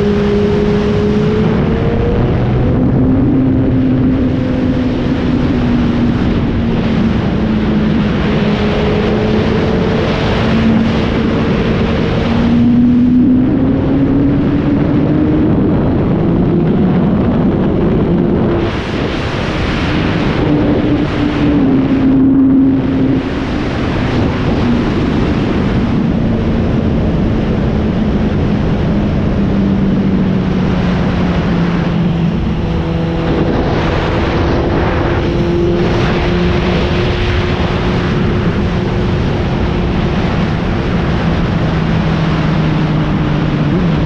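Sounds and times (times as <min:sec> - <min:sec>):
motorcycle engine running: 0:00.0 - 0:44.0
wind rush on microphone: 0:00.0 - 0:44.0.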